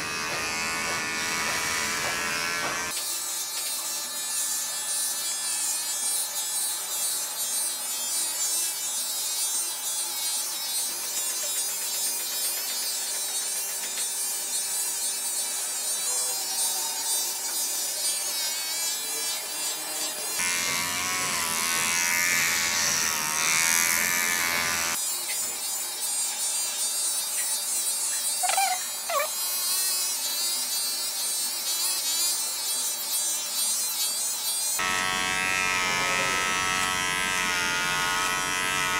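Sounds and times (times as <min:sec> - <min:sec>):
electric hair clippers buzzing: 0:00.0 - 0:38.9.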